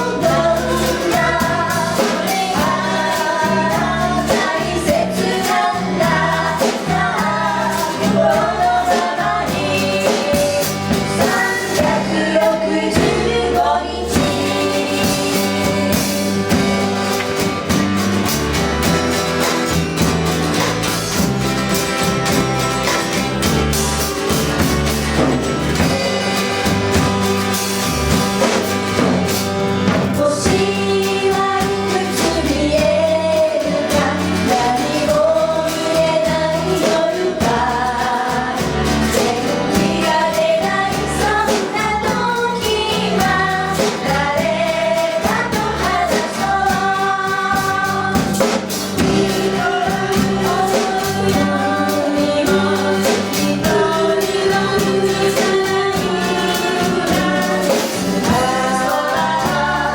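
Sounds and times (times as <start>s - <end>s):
live band playing pop: 0.0s - 59.9s
voices singing together: 0.0s - 59.9s.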